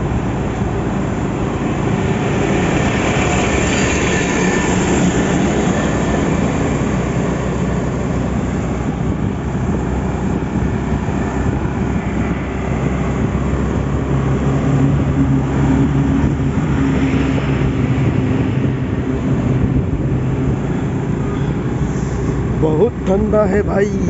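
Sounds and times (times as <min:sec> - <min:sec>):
motorcycle engine hum: 0:00.0 - 0:24.0
wind noise on microphone: 0:00.0 - 0:24.0.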